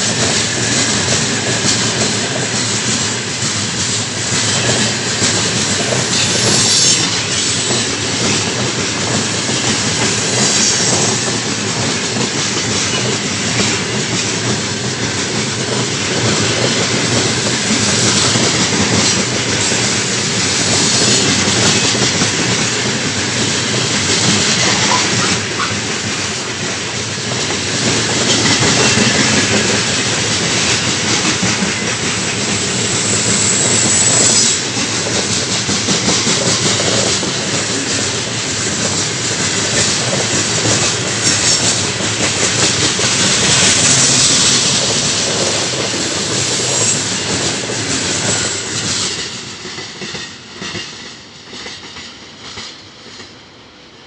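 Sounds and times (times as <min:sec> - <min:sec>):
freight train wheels clattering: 0:00.0 - 0:53.5.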